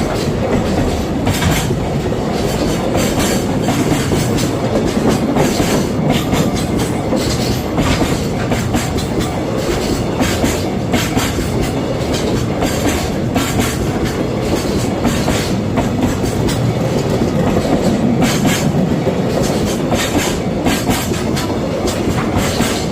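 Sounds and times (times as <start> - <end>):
freight train rumbling past: 0.0 - 22.9
wheels clacking over rail joints: 0.0 - 22.9.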